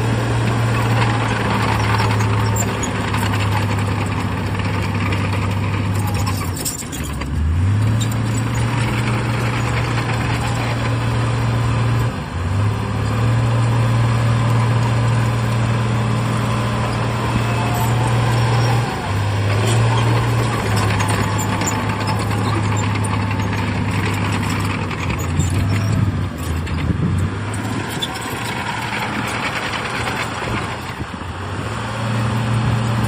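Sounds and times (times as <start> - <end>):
heavy diesel engine under load: 0.0 - 33.0.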